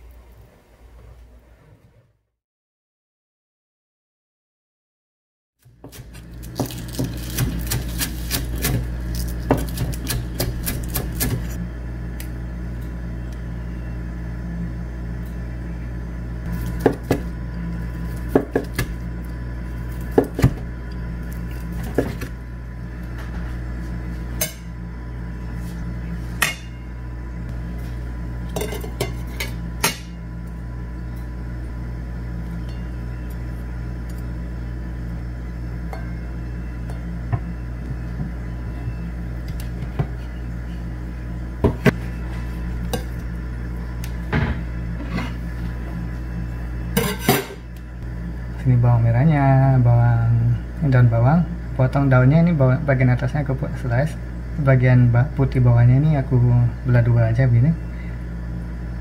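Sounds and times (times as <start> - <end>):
steady low hum: 5.6 - 59.0.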